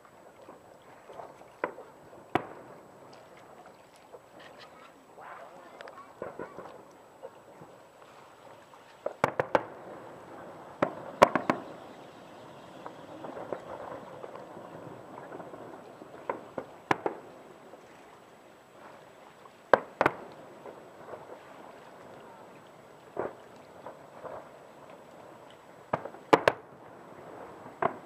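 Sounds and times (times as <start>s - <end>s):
fireworks bursting with sharp bangs: 0.0s - 17.8s, 19.7s - 28.0s
fireworks crackling: 0.0s - 28.0s.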